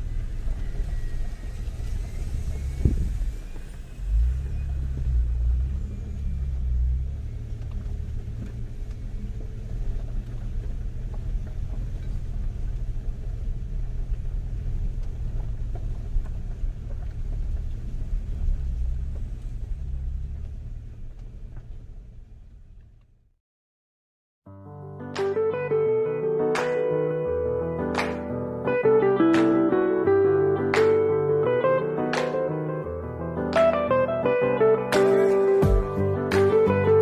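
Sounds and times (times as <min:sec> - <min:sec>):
car engine and tyres rumbling: 0:00.0 - 0:23.4, 0:29.2 - 0:37.0.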